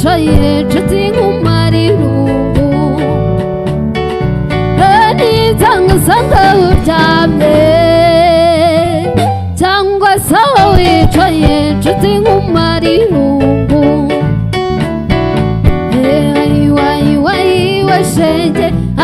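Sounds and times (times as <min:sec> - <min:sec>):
woman singing with vibrato: 0:00.0 - 0:03.2, 0:04.8 - 0:14.2, 0:15.9 - 0:19.0
drum kit: 0:00.0 - 0:19.0
electric bass: 0:00.0 - 0:19.0
keyboard: 0:00.0 - 0:19.0.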